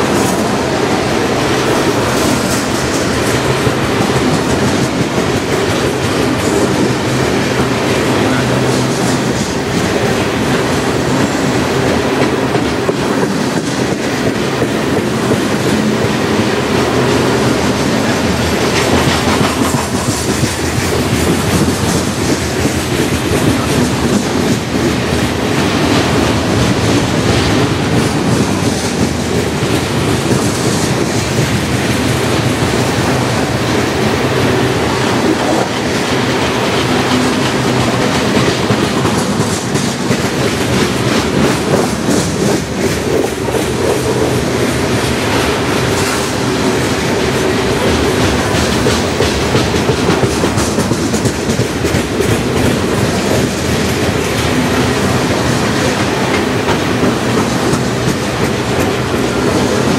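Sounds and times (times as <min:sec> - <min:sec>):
freight train wheels rumbling: 0:00.0 - 0:59.9
train clickety-clack: 0:00.0 - 0:59.9.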